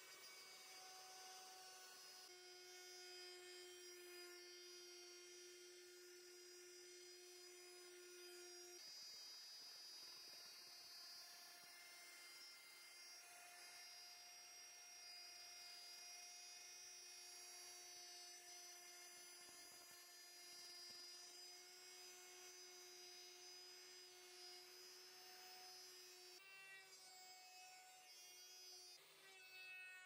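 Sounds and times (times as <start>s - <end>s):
electric router cutting wood: 0.0s - 30.0s.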